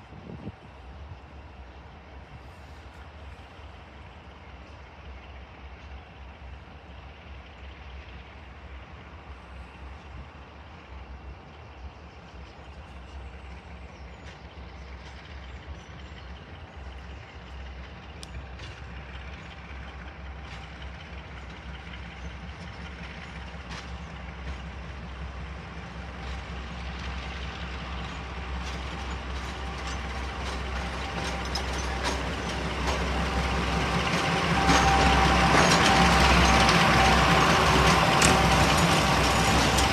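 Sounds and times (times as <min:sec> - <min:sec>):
diesel locomotive engine hum: 0:00.0 - 0:39.9.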